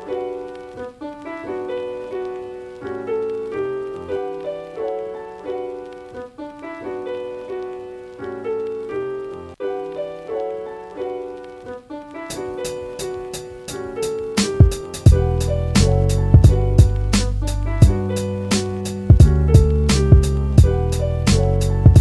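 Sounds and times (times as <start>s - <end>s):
piano melody: 0.0s - 22.0s.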